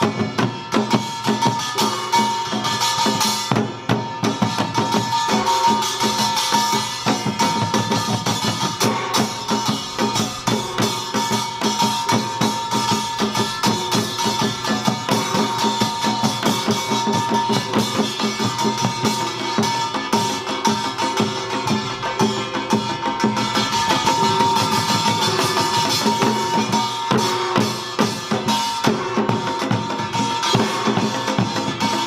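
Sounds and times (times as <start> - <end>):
drums beating fast strokes: 0.0 - 32.0.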